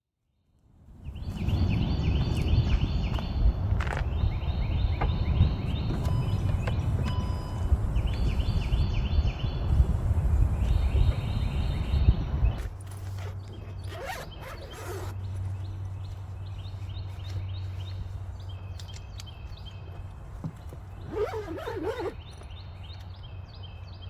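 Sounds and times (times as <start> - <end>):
wind rumbling on microphone: 0.8 - 22.6.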